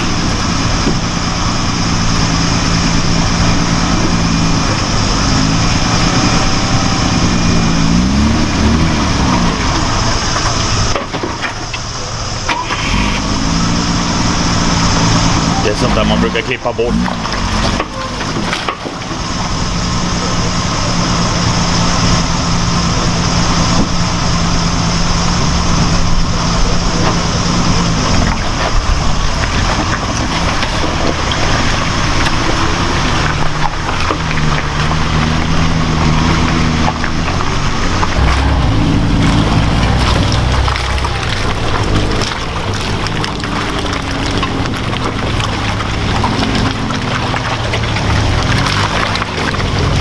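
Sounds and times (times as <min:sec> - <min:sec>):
constant rushing noise: 0:00.0 - 0:50.0
truck engine running: 0:00.0 - 0:50.0.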